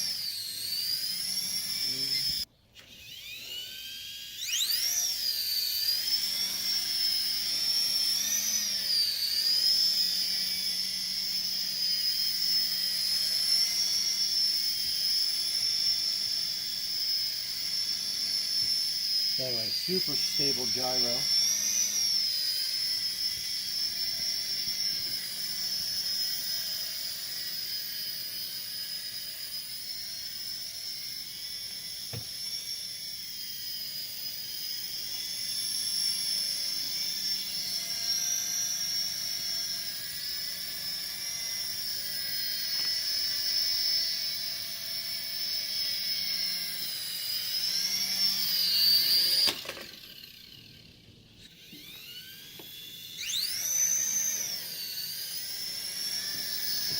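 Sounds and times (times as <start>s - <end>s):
toy helicopter motors whining: 0.0s - 56.9s.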